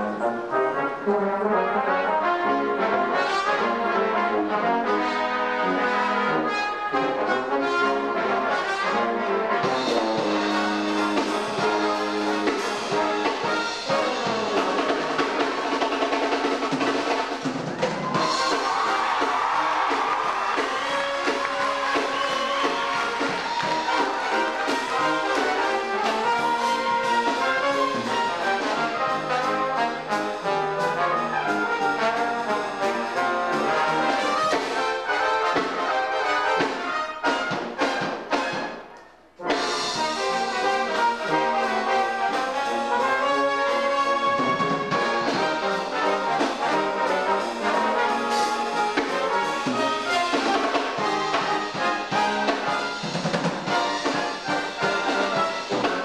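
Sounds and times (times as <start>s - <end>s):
brass ensemble playing: 0.0s - 56.0s
drum kit: 2.4s - 56.0s.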